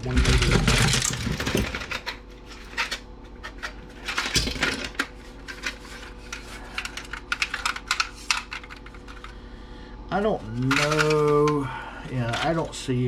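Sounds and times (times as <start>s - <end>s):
small parts clicking and clattering: 0.0s - 9.4s, 10.5s - 12.7s.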